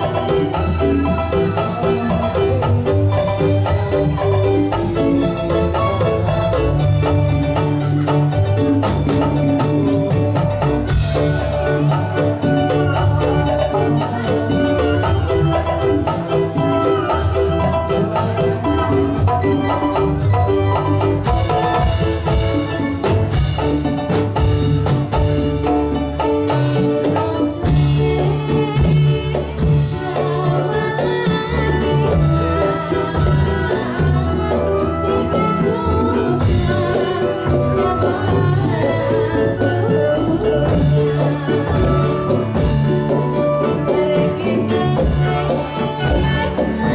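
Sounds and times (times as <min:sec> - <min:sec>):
held melodic line: 0:00.0 - 0:46.9
percussion ensemble beat: 0:00.0 - 0:46.9.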